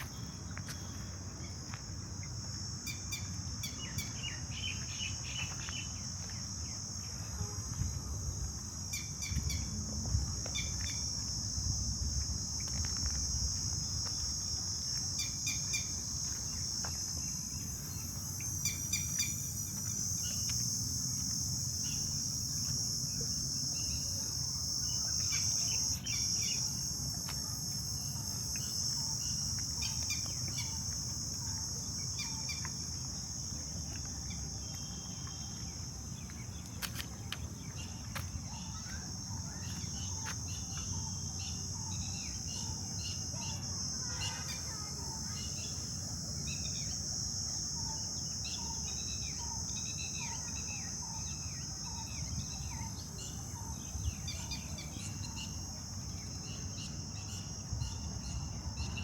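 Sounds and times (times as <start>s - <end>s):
high-pitched insect drone: 0.0s - 36.3s, 37.8s - 59.0s.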